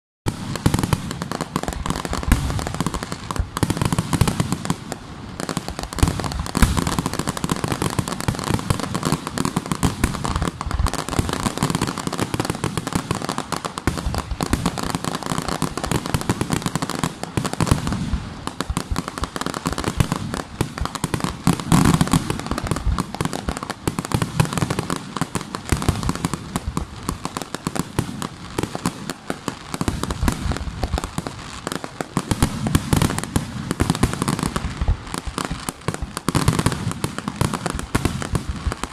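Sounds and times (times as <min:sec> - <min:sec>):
firework shell bursts and crackling: 0:00.3 - 0:38.9.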